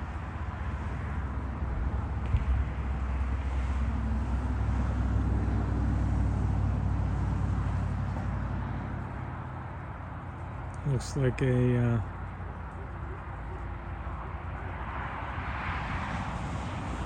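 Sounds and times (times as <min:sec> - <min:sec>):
locomotive diesel engine droning: 0:00.0 - 0:15.3.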